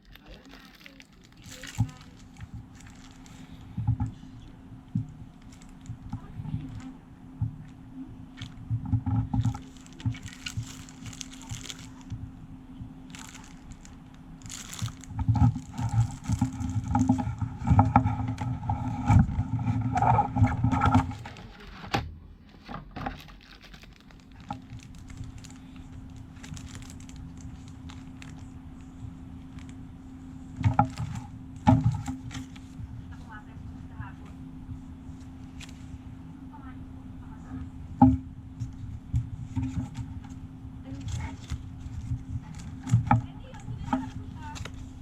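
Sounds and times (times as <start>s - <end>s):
packaging rustling: 0.0s - 12.3s, 13.0s - 19.3s, 20.5s - 29.8s, 30.4s - 32.8s, 35.1s - 35.9s, 38.6s - 45.0s
steady low hum: 0.0s - 45.0s.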